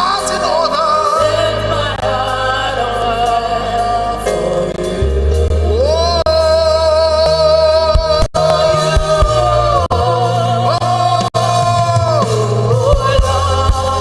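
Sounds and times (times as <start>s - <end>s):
person singing long notes: 0.0s - 14.0s
steady bass notes: 0.0s - 14.0s.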